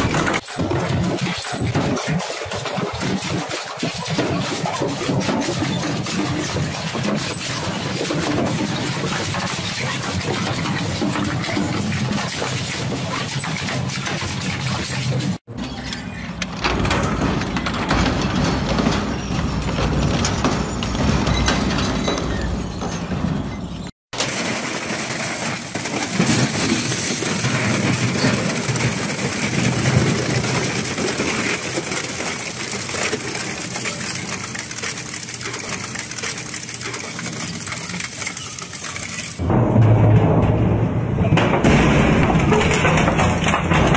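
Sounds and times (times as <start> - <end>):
shredder crunching metal: 0.0 - 15.6, 24.1 - 43.9.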